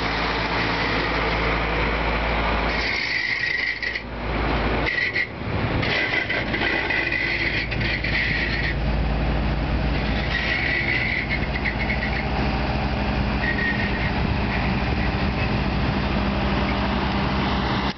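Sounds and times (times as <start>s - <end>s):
truck diesel engine running: 0.0s - 17.9s.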